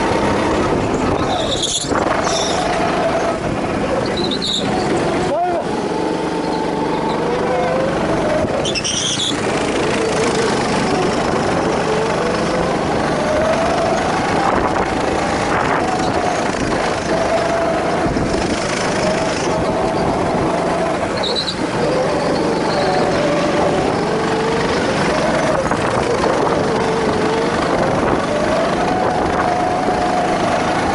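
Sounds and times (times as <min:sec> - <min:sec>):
go-kart engine revving: 0:00.0 - 0:30.9
steady rushing noise: 0:00.0 - 0:30.9.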